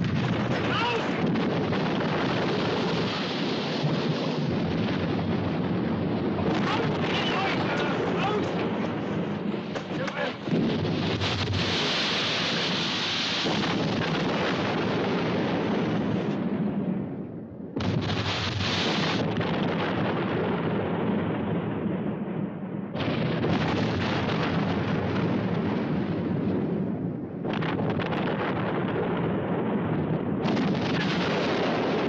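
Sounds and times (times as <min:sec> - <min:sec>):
heavy explosions rumbling: 0:00.0 - 0:32.0.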